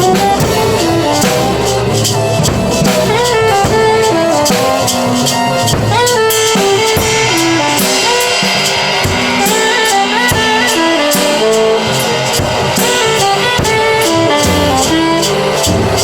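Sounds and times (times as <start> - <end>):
drum kit beat: 0.0 - 16.0
melodic held notes: 0.0 - 16.0.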